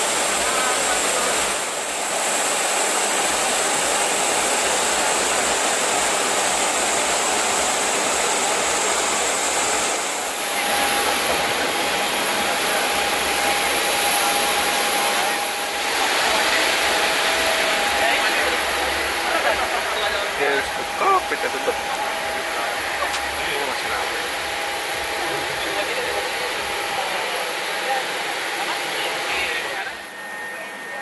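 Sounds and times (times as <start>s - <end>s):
faint high whine: 0.0s - 31.0s.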